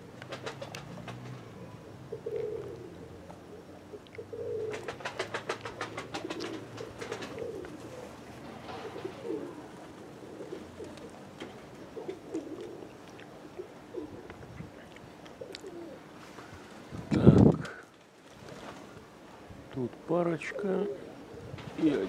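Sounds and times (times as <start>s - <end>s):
pigeons cooing: 0.0s - 19.3s, 20.3s - 22.0s.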